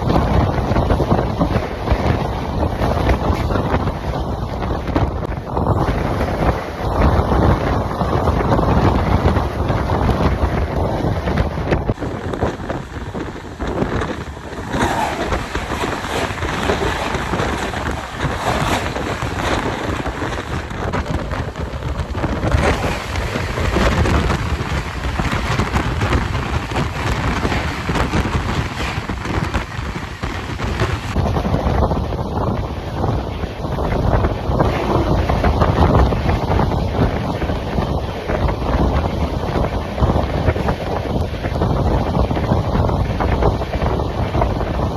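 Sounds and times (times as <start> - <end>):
fast trains rumbling: 0.0 - 44.9
rushing wind: 0.0 - 44.9
wind buffeting microphone: 0.0 - 44.9.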